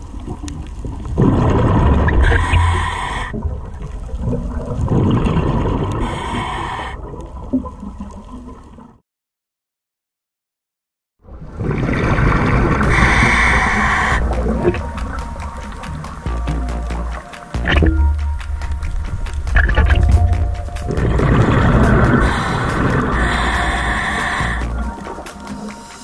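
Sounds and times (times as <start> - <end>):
scuba regulator bubbling: 0.0 - 8.6, 11.6 - 26.0.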